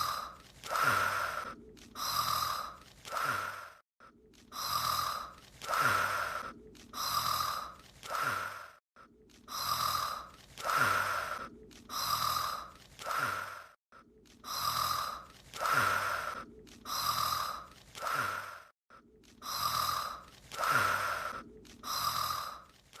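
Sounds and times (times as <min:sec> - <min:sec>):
cartoonish voiced snoring: 0:00.0 - 0:03.8, 0:04.5 - 0:08.8, 0:09.5 - 0:13.8, 0:14.4 - 0:18.7, 0:19.4 - 0:23.0.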